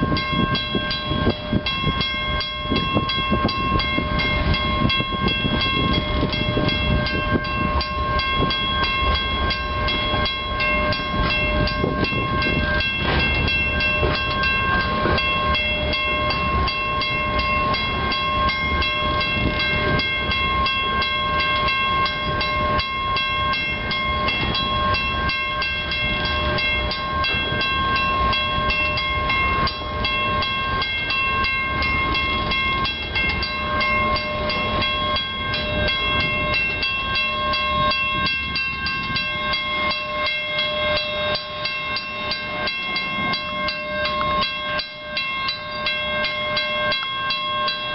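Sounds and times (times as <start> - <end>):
freight train rumbling past: 0.0 - 47.9
high-pitched ringing: 0.0 - 47.9.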